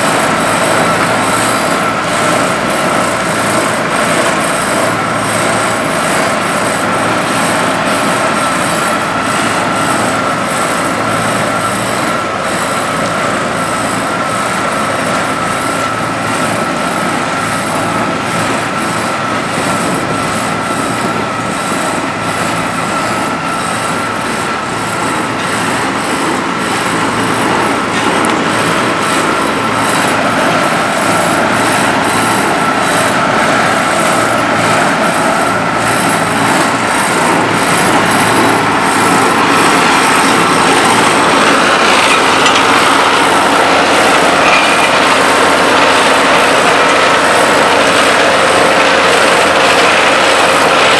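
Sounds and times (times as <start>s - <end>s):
constant high whine: 0.0s - 50.9s
heavy diesel machinery running: 0.0s - 50.9s.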